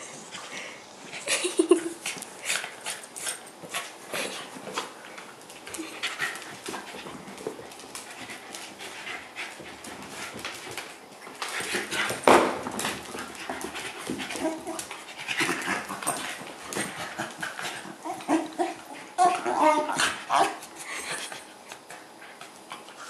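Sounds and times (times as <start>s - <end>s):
dogs scuffling on wooden floor: 1.1s - 23.0s.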